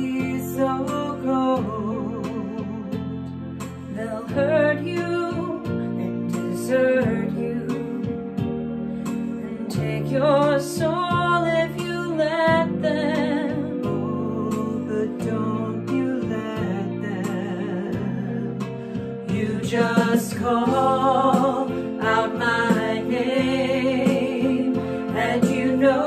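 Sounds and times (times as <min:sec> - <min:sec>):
women singing: 0:00.0 - 0:03.0, 0:03.9 - 0:08.4, 0:09.6 - 0:26.0
instrumental accompaniment: 0:00.0 - 0:26.0.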